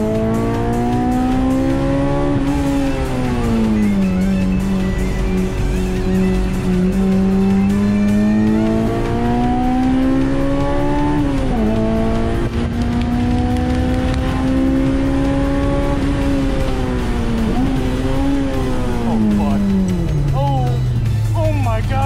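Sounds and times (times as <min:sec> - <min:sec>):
car engine revving high: 0:00.0 - 0:21.3.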